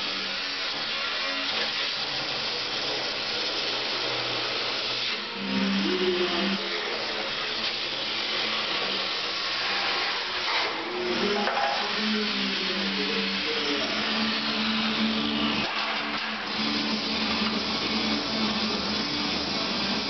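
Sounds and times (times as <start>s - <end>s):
power tool cutting sheet metal: 0.0s - 20.0s.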